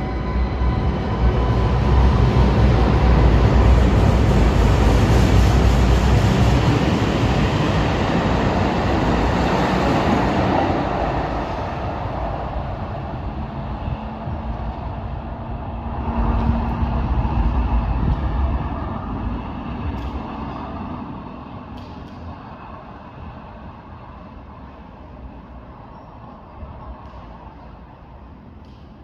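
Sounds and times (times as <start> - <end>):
light-rail train rumbling: 0.0 - 29.0.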